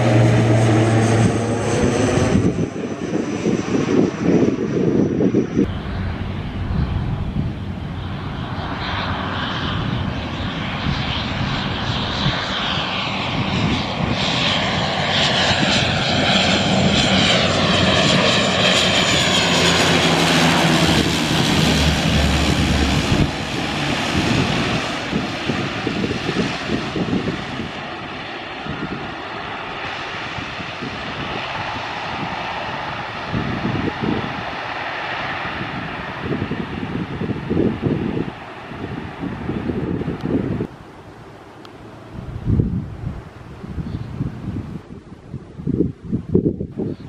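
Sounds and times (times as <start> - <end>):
turboprop airliner passing overhead: 0.0 - 47.0.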